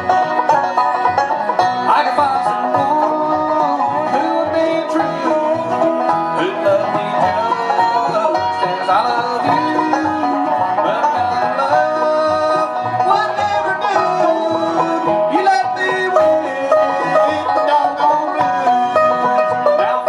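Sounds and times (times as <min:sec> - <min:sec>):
string band playing blues: 0:00.0 - 0:20.0.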